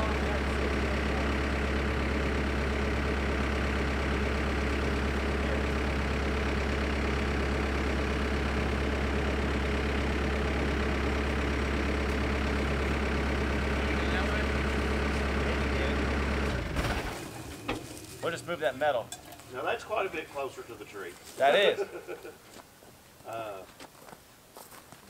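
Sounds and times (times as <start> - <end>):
diesel engine idling: 0.0 - 22.4.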